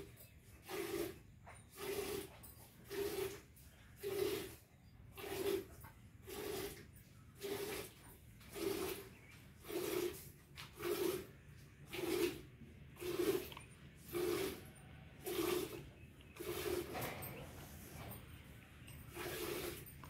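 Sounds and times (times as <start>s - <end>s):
milk squirting into pail: 0.0s - 17.7s, 19.1s - 20.0s.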